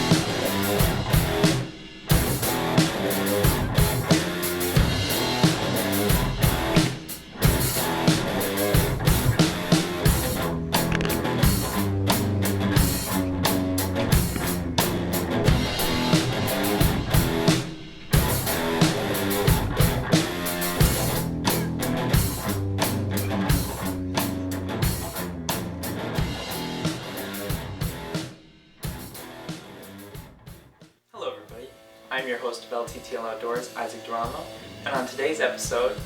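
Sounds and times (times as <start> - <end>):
rock guitar music: 0.0 - 30.8, 31.5 - 36.0
steady drum beat: 0.0 - 36.0.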